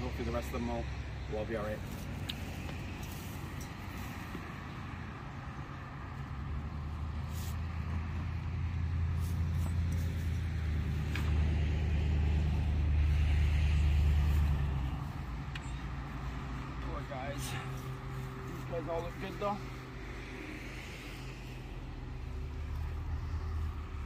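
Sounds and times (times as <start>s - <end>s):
passing vehicle engine hum: 0.0s - 24.0s.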